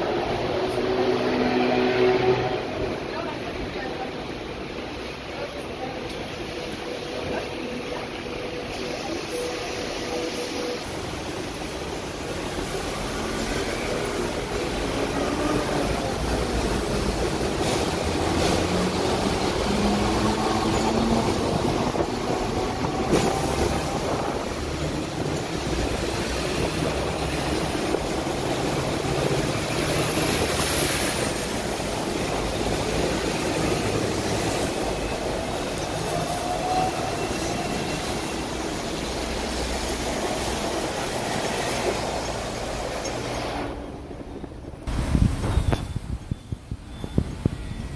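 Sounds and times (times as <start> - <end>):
tram wheels rumbling on rails: 0.0 - 47.9.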